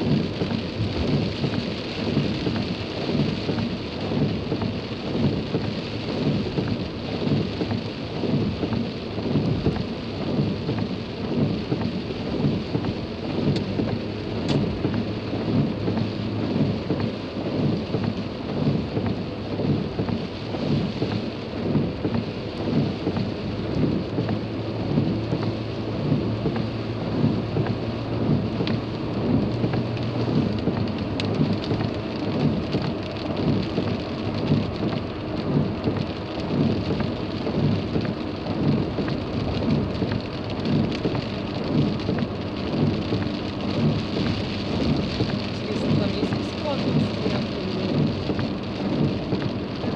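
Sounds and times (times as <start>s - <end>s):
rain on a car: 0.0s - 49.9s
tyres hissing on wet road: 0.0s - 49.9s.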